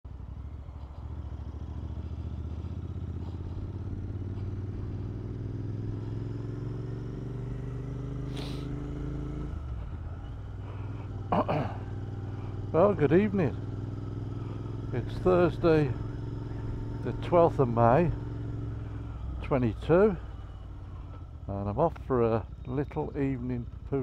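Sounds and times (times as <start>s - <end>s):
motorcycle engine riding along: 0.0s - 24.0s.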